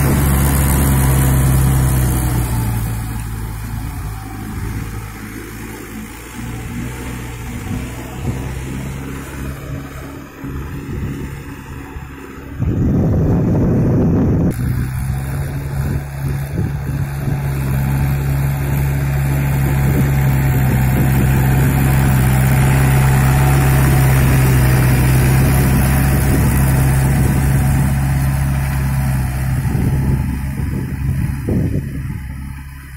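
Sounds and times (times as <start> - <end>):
tractor diesel engine droning: 0.0 - 32.9.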